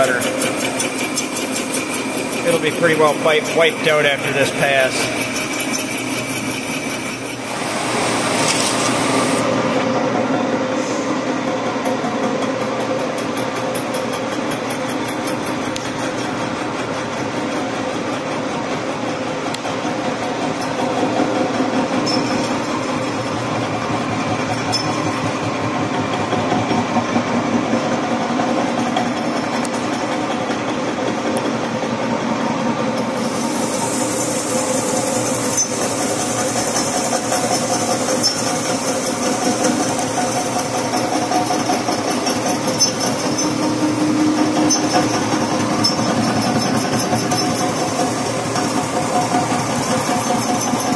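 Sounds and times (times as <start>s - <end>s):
boring bar cutting steel: 0.0s - 9.4s, 11.5s - 26.8s, 27.8s - 50.9s.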